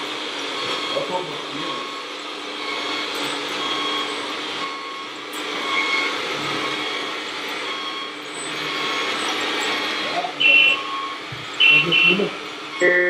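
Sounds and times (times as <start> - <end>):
machine motor humming: 0.0 - 13.0
short electronic beeps: 0.6 - 13.0.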